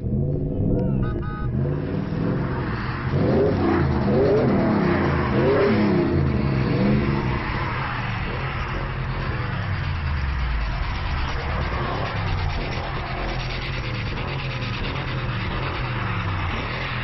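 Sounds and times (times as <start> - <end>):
steady engine drone: 0.0 - 17.0
vehicle engines revving under load: 0.0 - 17.0.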